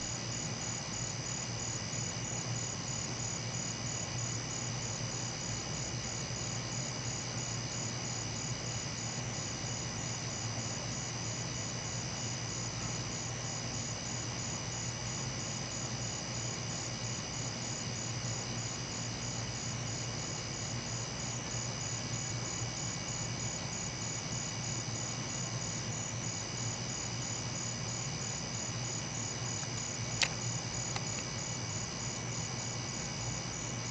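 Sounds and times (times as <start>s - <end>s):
crickets trilling: 0.0s - 33.9s
low steady hum: 0.0s - 33.9s.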